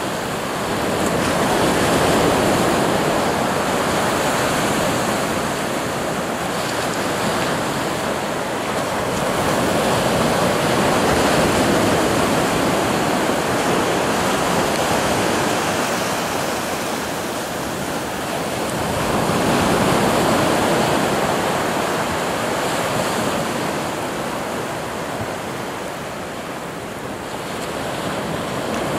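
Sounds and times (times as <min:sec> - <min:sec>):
waves breaking on sandy beach: 0:00.0 - 0:28.9.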